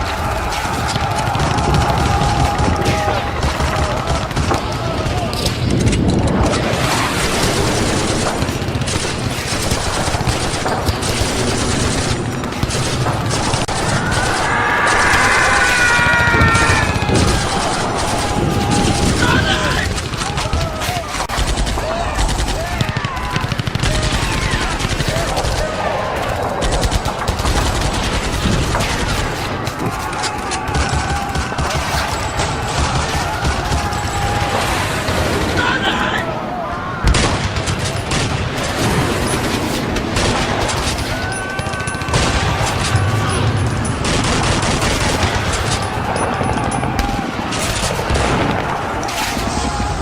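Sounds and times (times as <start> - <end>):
machine-gun bursts: 0.0 - 35.7, 37.1 - 49.8
rifle shots: 0.0 - 35.8, 37.0 - 50.0.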